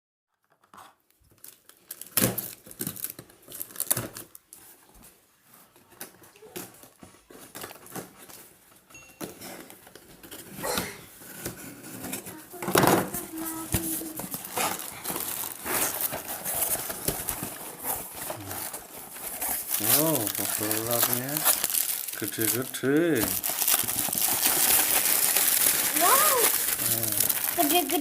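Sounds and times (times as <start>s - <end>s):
packaging crinkling and tearing: 0.4s - 8.8s, 9.7s - 28.0s.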